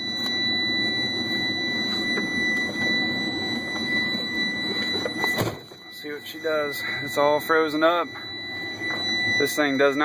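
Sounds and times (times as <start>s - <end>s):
high-pitched warning buzzer: 0.0s - 10.0s.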